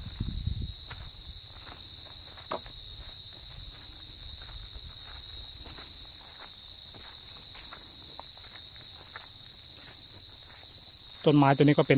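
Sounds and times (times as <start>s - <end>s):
night insects buzzing: 0.0s - 11.9s.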